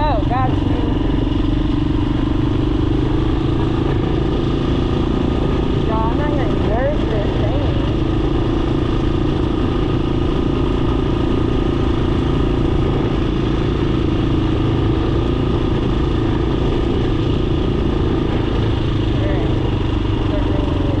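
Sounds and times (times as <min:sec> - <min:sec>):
constant low rumble: 0:00.0 - 0:21.0
dirt bike engine running: 0:00.0 - 0:21.0.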